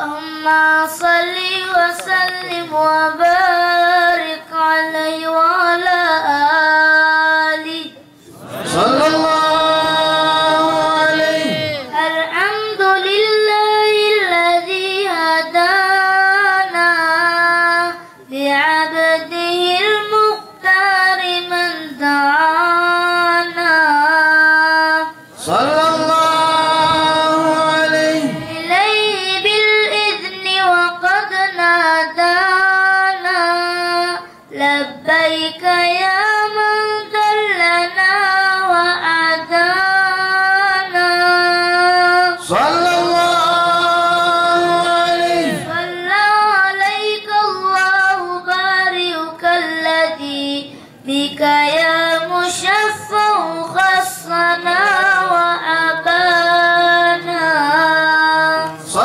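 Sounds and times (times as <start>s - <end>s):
boy chanting into a microphone: 0.0s - 59.0s.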